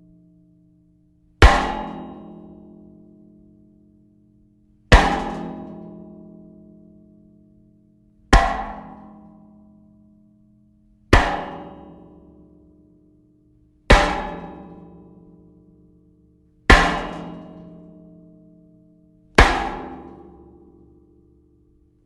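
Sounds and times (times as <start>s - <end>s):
metallic impacts with ringing: 1.3s - 3.5s, 4.4s - 15.9s, 16.5s - 21.4s.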